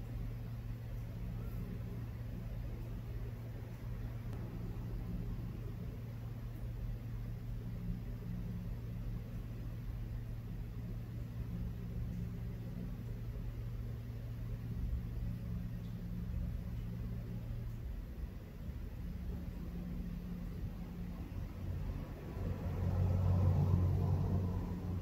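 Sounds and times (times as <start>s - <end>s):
low hum and rumble: 0.0s - 25.0s.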